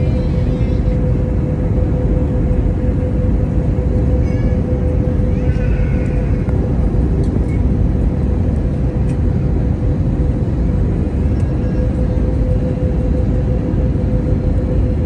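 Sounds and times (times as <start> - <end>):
aircraft cabin rumble: 0.0 - 15.0
constant hum: 0.0 - 15.0.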